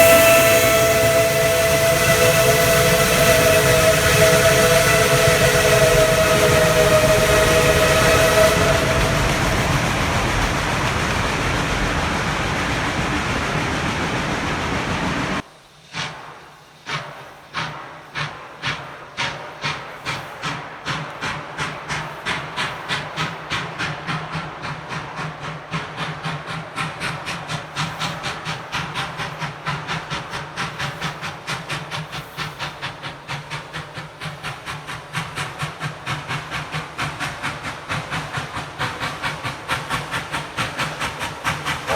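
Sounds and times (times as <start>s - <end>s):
locomotive exhaust chuffs: 0.0s - 15.4s, 17.0s - 41.9s
steam locomotive whistle: 0.0s - 15.4s, 23.5s - 41.9s
hiss of steam: 0.0s - 41.9s.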